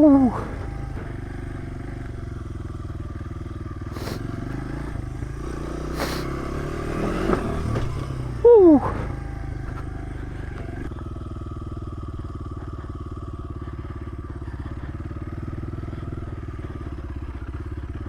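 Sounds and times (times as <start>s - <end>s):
dirt bike engine idling: 0.0s - 18.0s.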